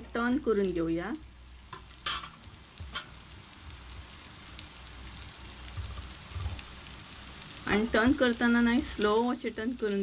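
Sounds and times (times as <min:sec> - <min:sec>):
fish sizzling in oil: 0:00.0 - 0:10.0
oil crackles and pops: 0:00.0 - 0:10.0.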